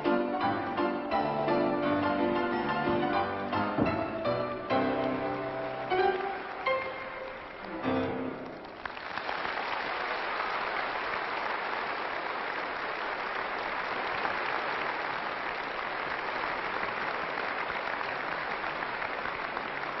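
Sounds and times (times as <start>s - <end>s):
arena audience applauding: 3.2s - 20.0s.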